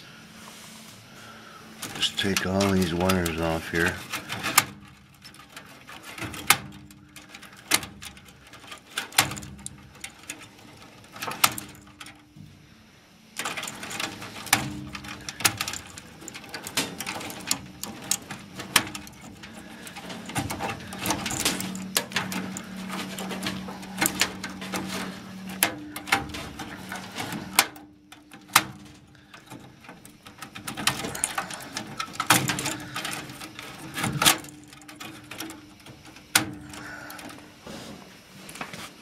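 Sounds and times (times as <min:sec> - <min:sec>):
wire bundles rustling: 0:00.0 - 0:39.0
wire connectors clicking off: 0:01.8 - 0:12.5, 0:13.3 - 0:37.6.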